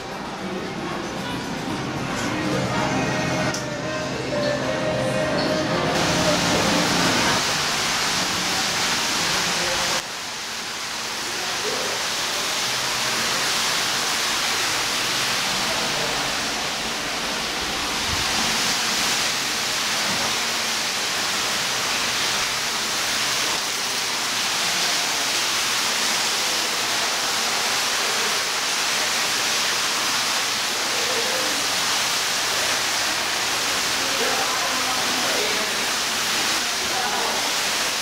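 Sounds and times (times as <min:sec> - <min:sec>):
indoor room hiss: 0:00.0 - 0:38.0.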